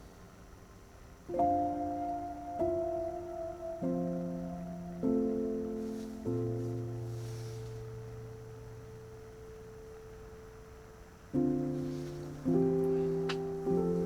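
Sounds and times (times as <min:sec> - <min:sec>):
slow soft instrumental music: 0:01.3 - 0:14.0.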